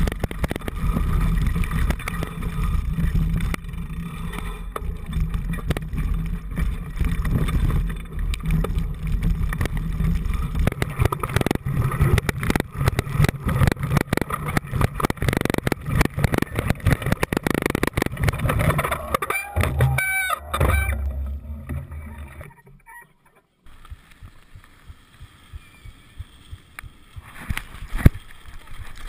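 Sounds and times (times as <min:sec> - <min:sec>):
bike clattering and rattling: 0:00.0 - 0:29.0
bike rumble on rough trail: 0:00.0 - 0:29.0.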